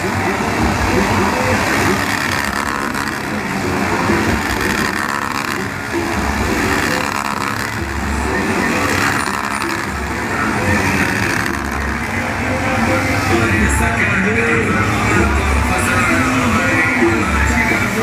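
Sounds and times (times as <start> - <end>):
car engines running: 0.0 - 18.0
noisy background: 0.0 - 18.0.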